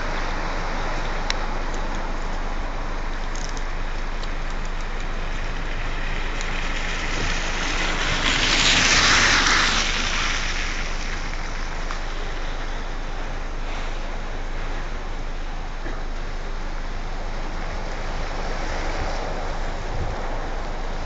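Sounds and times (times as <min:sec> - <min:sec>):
traffic noise: 0:00.0 - 0:21.0
tyres hissing through water: 0:00.0 - 0:21.0.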